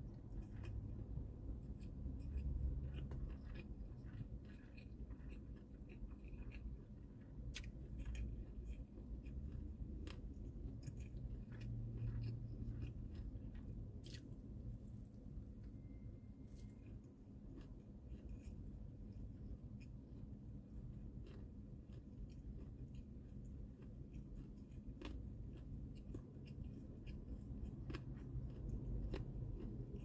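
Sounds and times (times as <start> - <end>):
person chewing: 0.0 - 30.0.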